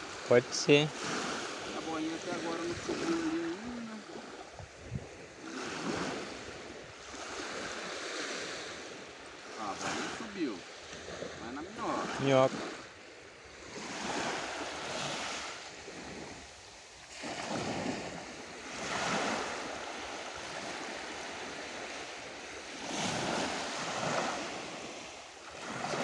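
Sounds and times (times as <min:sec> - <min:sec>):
surf breaking on beach: 0:00.0 - 0:13.0, 0:13.6 - 0:26.0.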